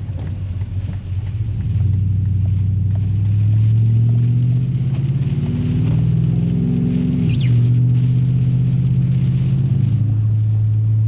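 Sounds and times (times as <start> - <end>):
pickup engine pulling away: 1.7 - 10.9.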